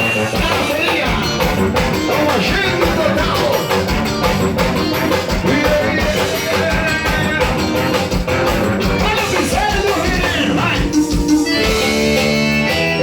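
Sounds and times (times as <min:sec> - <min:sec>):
live band playing instrumental: 0:00.0 - 0:13.0.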